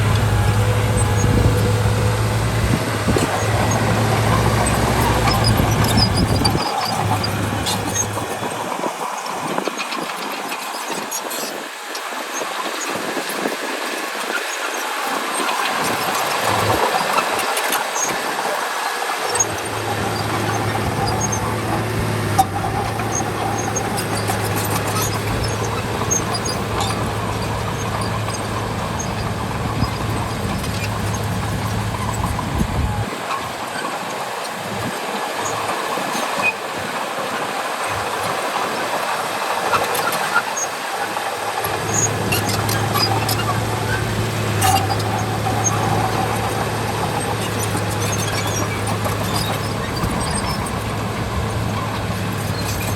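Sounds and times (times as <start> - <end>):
bulldozer engine running: 0.0 - 52.9.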